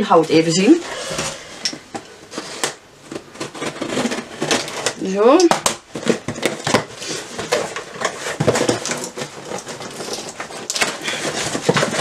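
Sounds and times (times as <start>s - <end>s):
cardboard box rustling: 0.6s - 12.0s.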